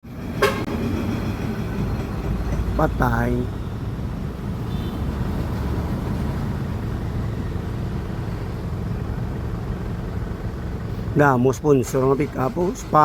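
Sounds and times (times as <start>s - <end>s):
engine running steadily: 0.1s - 13.0s.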